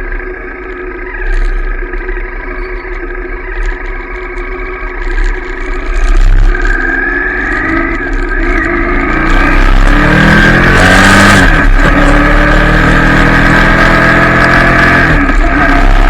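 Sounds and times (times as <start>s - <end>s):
motorcycle exhaust accelerating: 0.0s - 16.0s.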